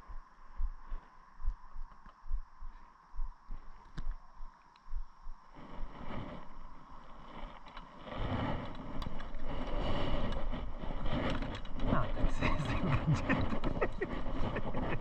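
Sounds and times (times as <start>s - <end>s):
rough rumbling rustling on microphone: 0.0s - 15.0s.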